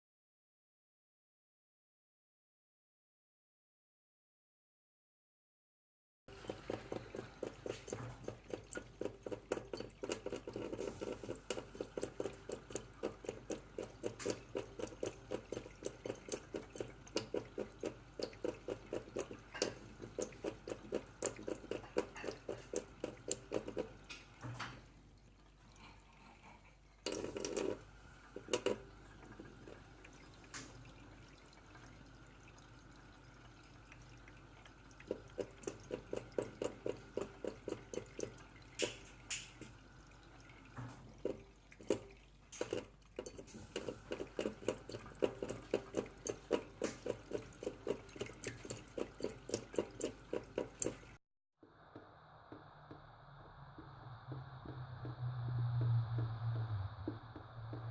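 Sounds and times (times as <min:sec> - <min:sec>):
cat lapping water: 0:06.3 - 0:53.0.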